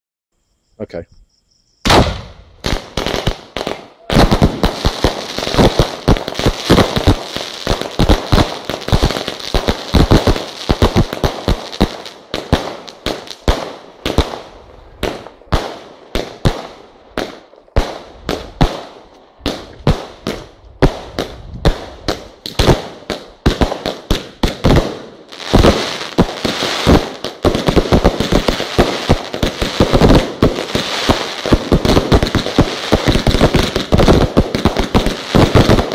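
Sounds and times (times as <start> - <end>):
fireworks bangs and crackles: 1.8 - 35.9.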